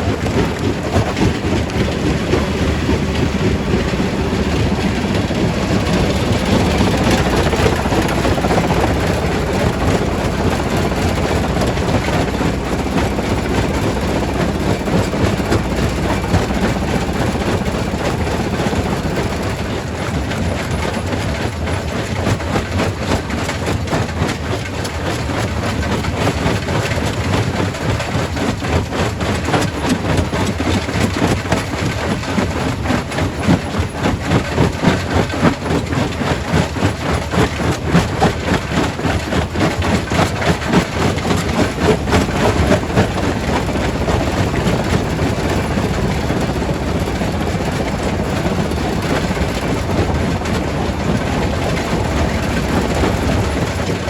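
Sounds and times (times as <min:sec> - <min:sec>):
rock crusher rumbling: 0:00.0 - 0:54.0.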